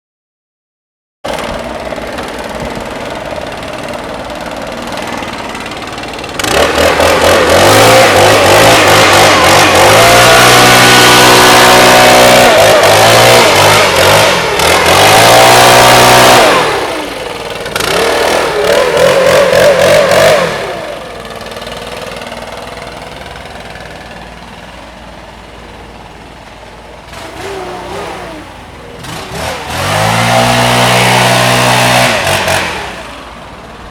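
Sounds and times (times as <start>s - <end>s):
leaf blower engine revving: 1.3s - 33.9s.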